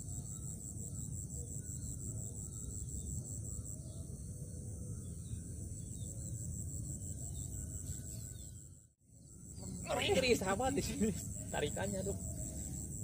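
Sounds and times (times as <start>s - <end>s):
insect high trill: 0.0s - 13.0s.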